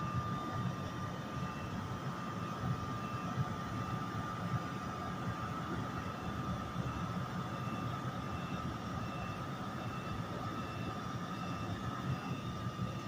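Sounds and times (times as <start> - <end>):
constant high-pitched tone: 0.0 - 13.0.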